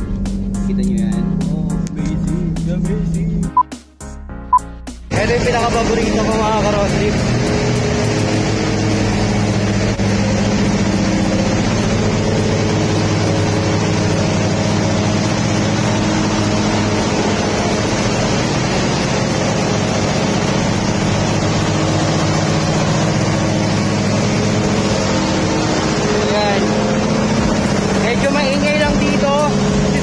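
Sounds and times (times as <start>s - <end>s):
car engine idling: 0.0s - 3.6s, 5.0s - 30.0s.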